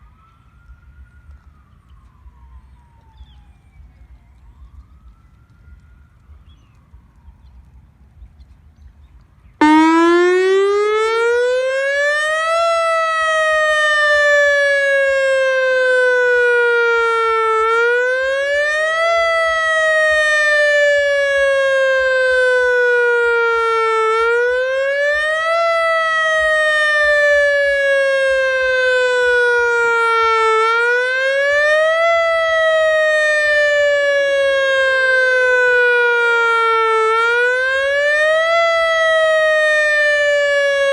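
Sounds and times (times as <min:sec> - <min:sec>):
warning siren wailing: 0:00.0 - 0:08.2, 0:09.6 - 0:40.9.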